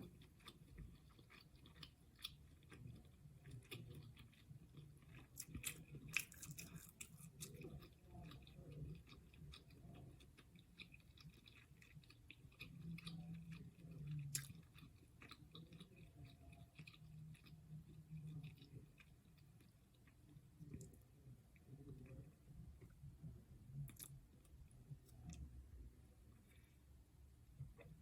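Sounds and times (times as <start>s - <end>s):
person chewing: 0.0s - 23.0s, 23.8s - 25.5s.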